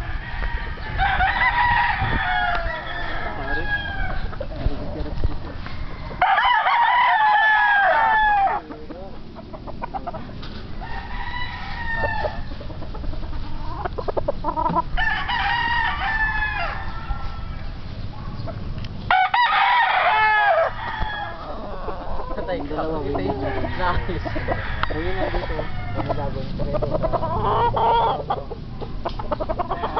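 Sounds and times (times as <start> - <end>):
roosters crowing: 0.0 - 29.9.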